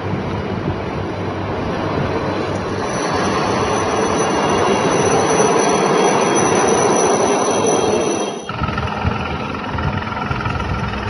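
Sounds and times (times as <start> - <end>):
helicopter rotor and engine noise: 0.0 - 11.0
high steady whine: 0.0 - 11.0.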